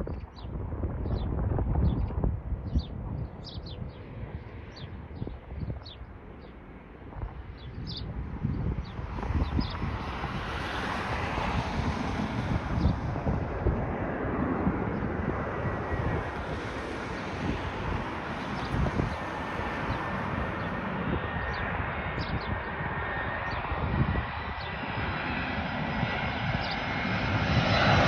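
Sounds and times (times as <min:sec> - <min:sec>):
jet airliner engine noise: 0:00.0 - 0:28.0
wind buffeting microphone: 0:00.0 - 0:28.0.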